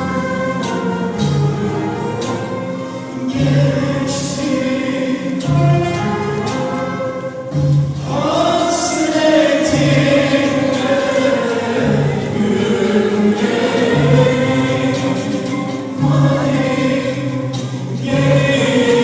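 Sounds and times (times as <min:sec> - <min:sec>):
classical music ensemble: 0:00.0 - 0:19.0.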